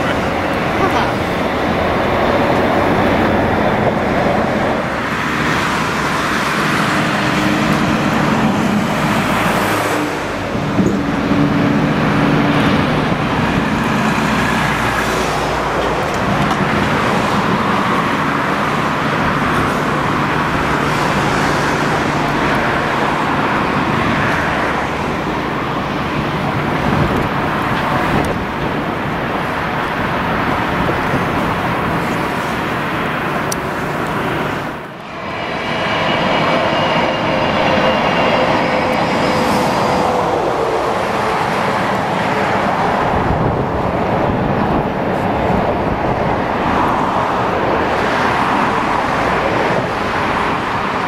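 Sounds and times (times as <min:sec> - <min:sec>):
freight train running past: 0:00.0 - 0:51.0.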